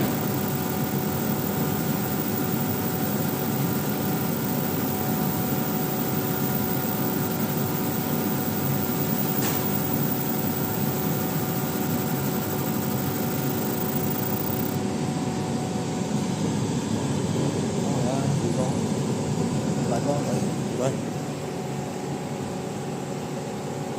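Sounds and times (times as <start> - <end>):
laser marking machine fans whirring: 0.0 - 23.9.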